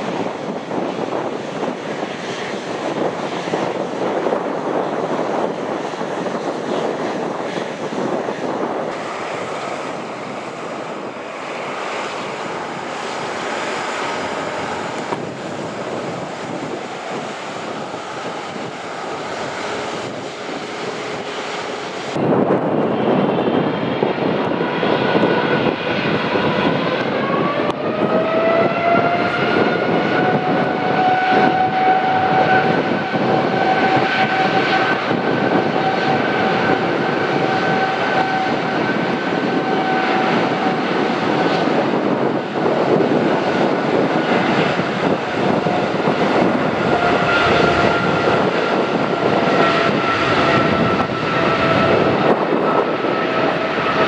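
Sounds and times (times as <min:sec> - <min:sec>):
jet engines rising whine: 0:00.0 - 0:54.0
jet engines roaring: 0:00.0 - 0:54.0.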